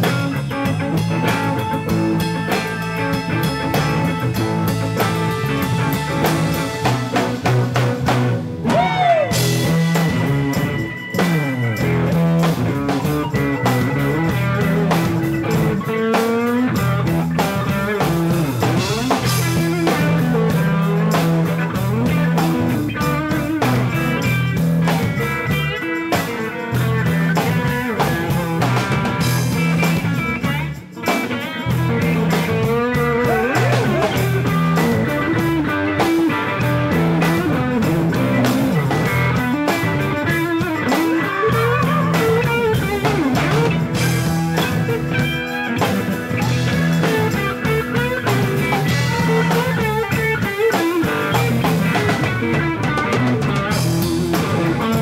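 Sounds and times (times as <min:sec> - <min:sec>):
bass line: 0:00.0 - 0:55.0
drum kit: 0:00.0 - 0:55.0
electric guitar lead: 0:00.0 - 0:55.0.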